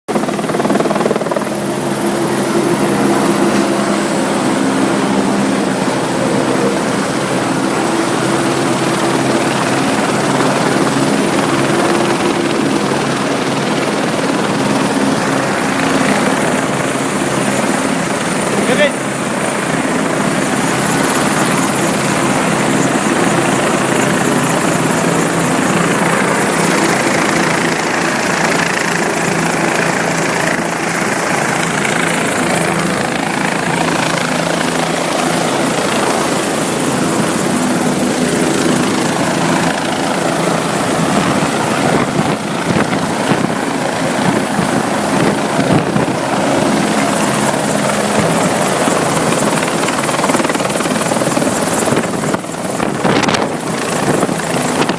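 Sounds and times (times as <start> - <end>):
helicopter rotor and turbine: 0.1 - 54.9.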